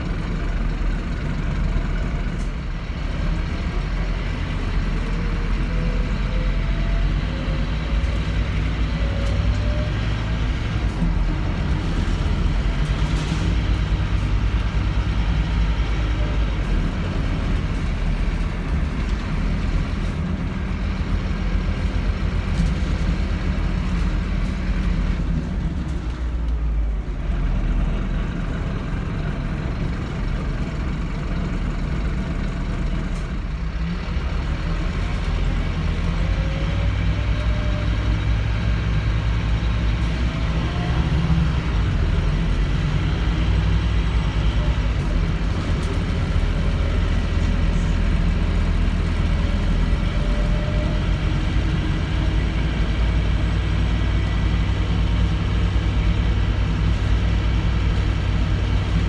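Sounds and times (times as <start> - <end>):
bus diesel engine running: 0.0 - 59.0
road noise: 0.0 - 59.0.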